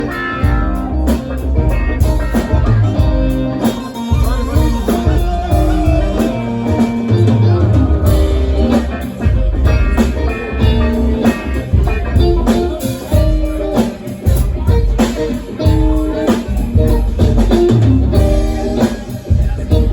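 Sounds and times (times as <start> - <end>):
bass guitar: 0.0 - 19.9
drum kit: 0.0 - 19.9
electric guitar: 0.0 - 19.9.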